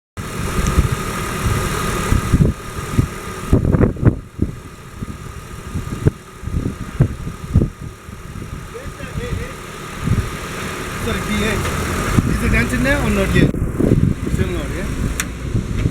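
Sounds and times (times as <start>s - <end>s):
car engine idling: 0.2s - 15.9s
irregular low thumps: 0.6s - 15.9s.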